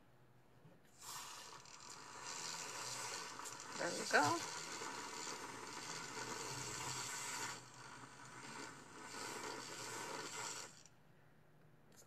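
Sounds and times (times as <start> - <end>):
milk frother whirring: 0.9 - 11.0.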